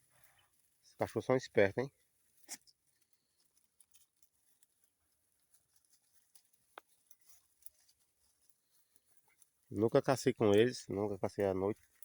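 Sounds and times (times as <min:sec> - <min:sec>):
faint ticks and rustles: 0:00.0 - 0:12.0.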